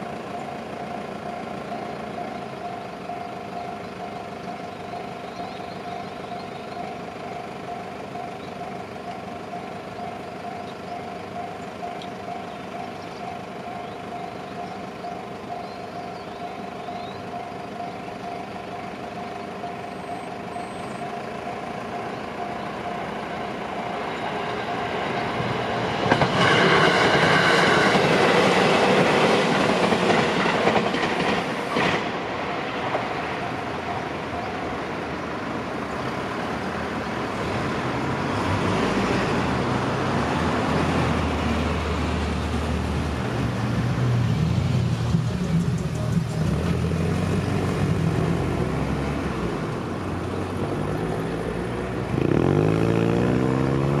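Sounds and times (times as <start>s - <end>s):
electric train passing: 0.0s - 54.0s
road vehicles driving: 0.0s - 54.0s.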